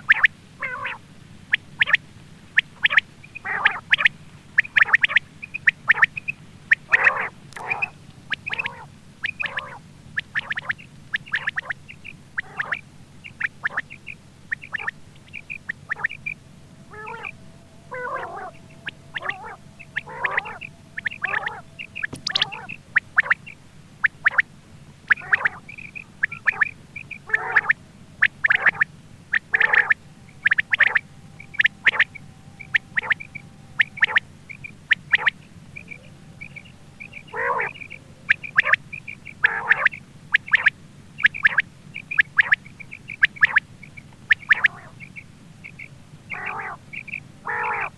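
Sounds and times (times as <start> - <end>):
faint steady hum: 0.0 - 47.9
quail calling: 0.0 - 47.9.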